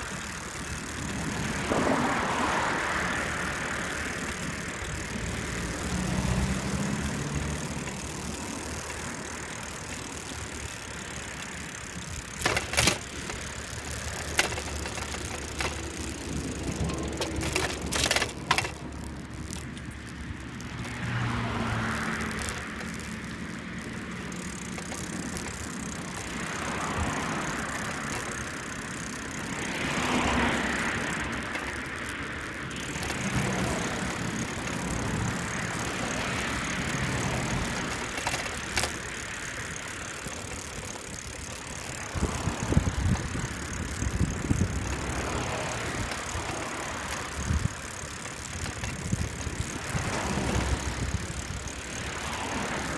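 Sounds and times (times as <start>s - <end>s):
bicycle riding rumble: 0.0s - 52.9s
bike jolts and rattles: 0.0s - 52.9s
cars passing: 0.0s - 52.9s.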